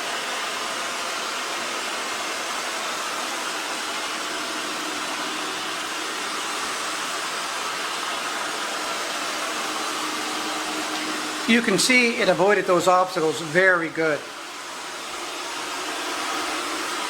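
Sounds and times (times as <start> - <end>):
robot vacuum fan whirring: 0.0 - 17.0.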